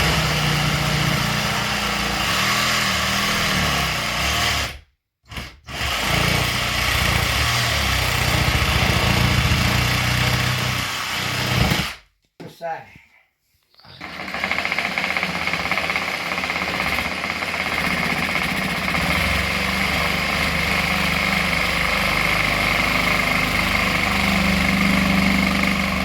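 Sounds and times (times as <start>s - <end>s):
power saw cutting into wall: 0.0s - 12.0s, 14.0s - 26.0s.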